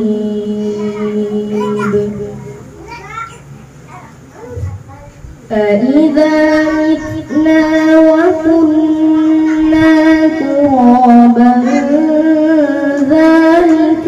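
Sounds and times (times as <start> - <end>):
boy chanting into microphone: 0.0 - 3.6, 4.4 - 14.0.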